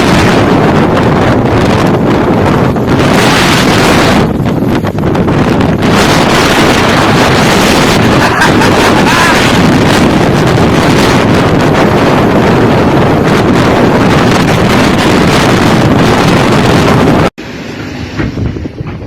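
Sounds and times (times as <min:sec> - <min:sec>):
wind blasting microphone: 0:00.0 - 0:19.0.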